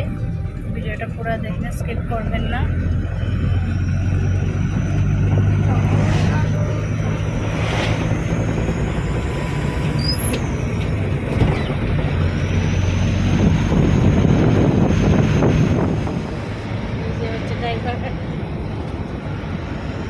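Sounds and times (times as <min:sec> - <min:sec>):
car cabin engine and road drone: 0:00.0 - 0:20.0.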